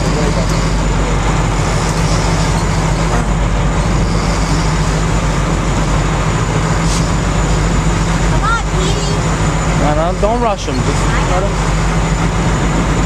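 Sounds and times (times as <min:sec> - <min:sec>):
boat engine droning: 0:00.0 - 0:13.0
steady rushing noise: 0:00.0 - 0:13.0.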